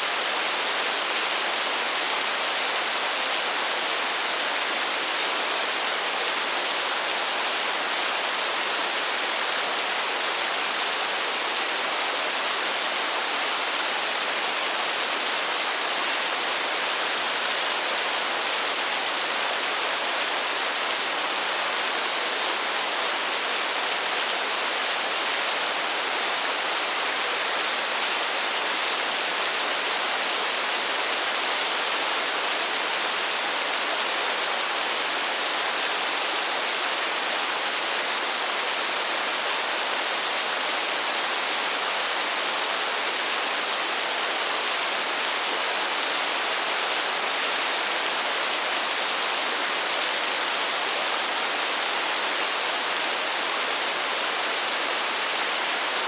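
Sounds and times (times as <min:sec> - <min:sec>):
heavy rain in a forest: 0:00.0 - 0:56.0.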